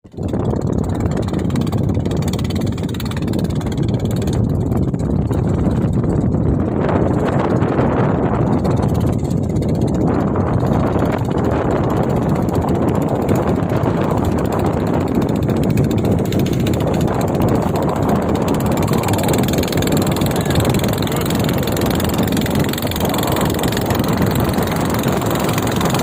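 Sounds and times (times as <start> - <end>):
speedboat engine running: 0.0 - 26.0.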